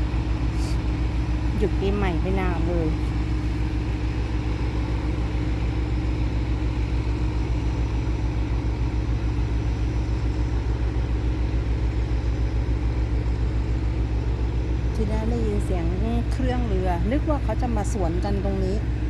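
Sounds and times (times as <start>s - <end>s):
boat engine throbbing: 0.0s - 19.0s.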